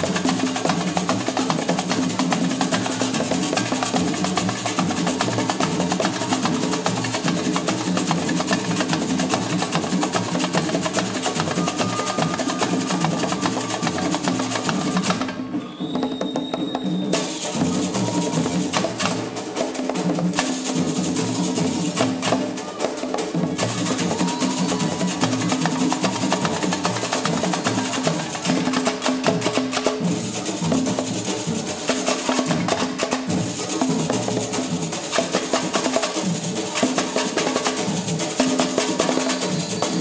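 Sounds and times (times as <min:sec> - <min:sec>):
hand drums: 0:00.0 - 0:40.0
high rattling percussion: 0:00.0 - 0:40.0.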